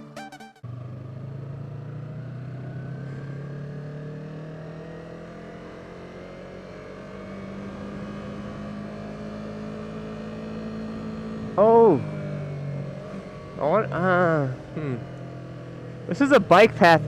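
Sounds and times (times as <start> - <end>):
motorcycle engine running: 0.6 - 17.0.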